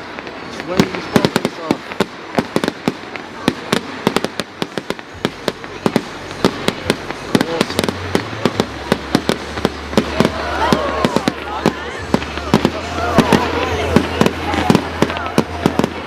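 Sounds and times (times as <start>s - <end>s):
fireworks bangs and crackles: 0.0s - 16.0s
whistling fireworks: 0.0s - 16.0s.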